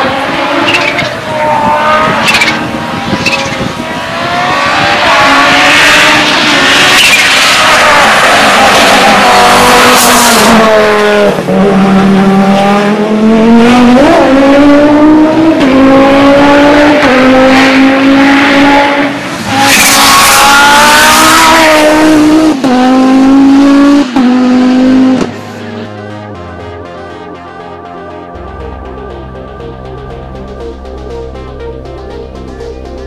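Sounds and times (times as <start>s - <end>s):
race car engine at full throttle: 0.0s - 33.0s.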